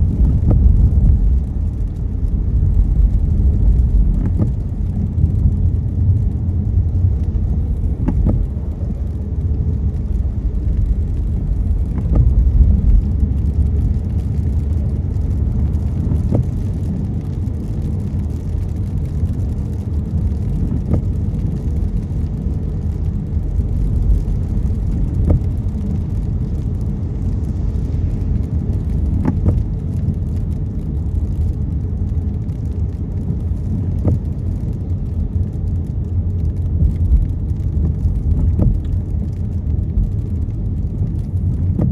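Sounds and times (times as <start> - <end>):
car driving on wet road: 0.0 - 41.9.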